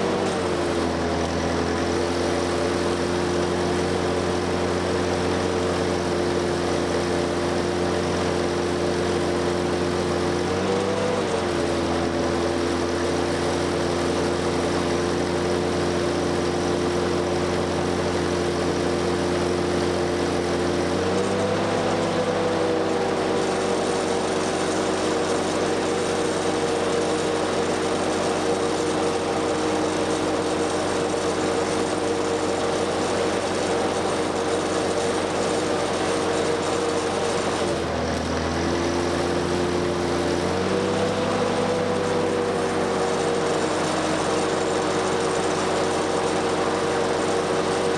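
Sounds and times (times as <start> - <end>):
generator engine running: 0.0 - 47.9.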